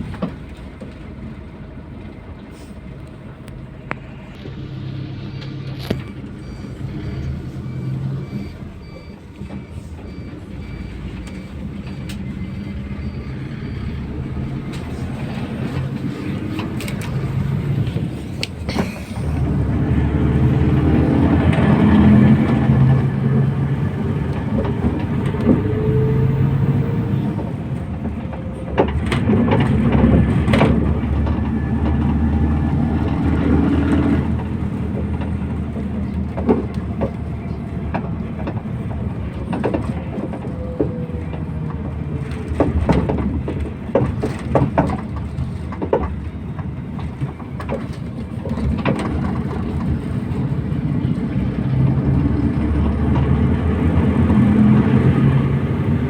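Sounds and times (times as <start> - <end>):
diesel bus engine drone: 0.0 - 56.0
road noise: 0.0 - 56.0.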